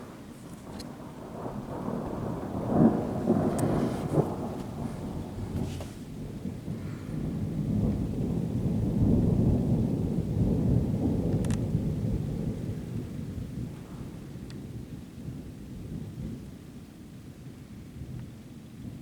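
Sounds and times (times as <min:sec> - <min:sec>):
rolling thunder: 0:00.0 - 0:16.7
rain falling: 0:00.0 - 0:19.0.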